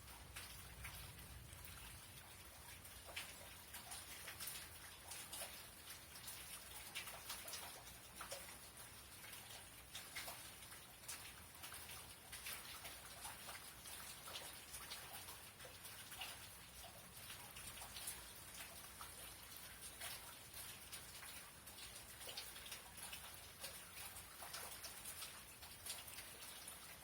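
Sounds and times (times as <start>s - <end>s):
faint rain hiss: 0.0s - 27.0s
raindrops ticking: 0.0s - 27.0s.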